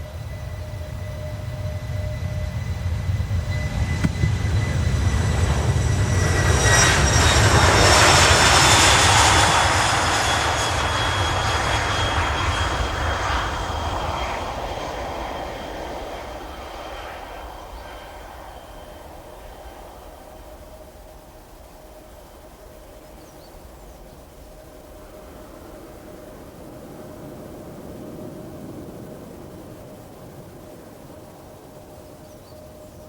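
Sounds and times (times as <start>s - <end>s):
aircraft engines passing: 0.0s - 33.0s.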